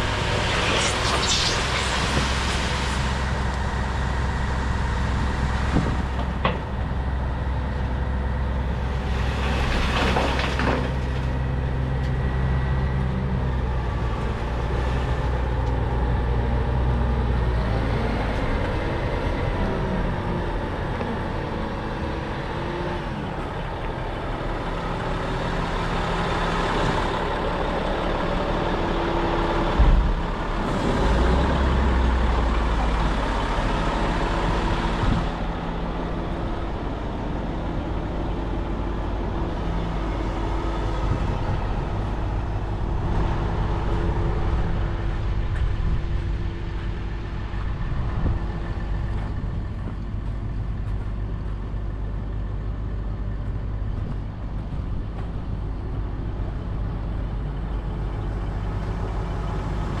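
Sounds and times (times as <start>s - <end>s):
diesel engine idling: 1.8s - 9.7s, 10.9s - 60.0s.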